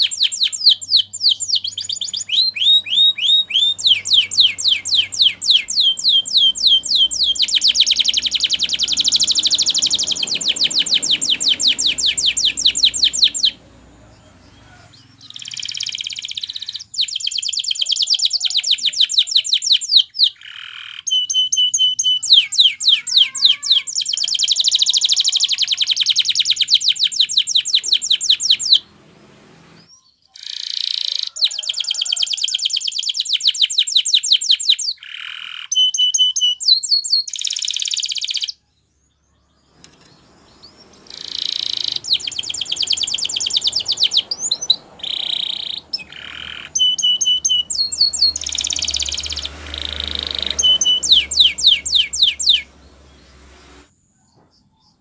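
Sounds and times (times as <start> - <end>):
canary singing trills: 0.0 - 29.0, 29.6 - 55.0.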